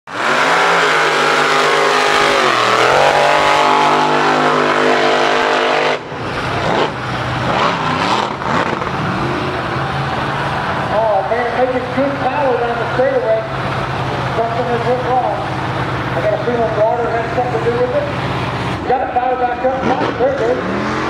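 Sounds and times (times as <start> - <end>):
truck engine at full throttle: 0.1 - 21.0.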